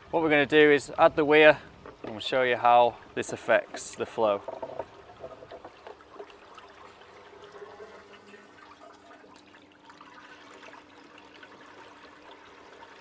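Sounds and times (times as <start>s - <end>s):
faint steady hum: 0.0s - 13.0s
water trickling and splashing: 0.0s - 13.0s.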